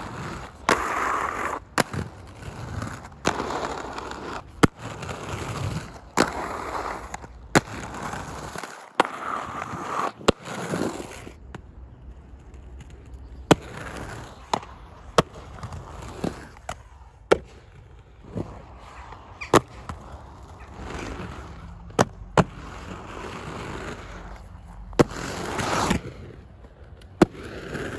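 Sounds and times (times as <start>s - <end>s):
skate wheels rolling on concrete: 0.0s - 27.9s.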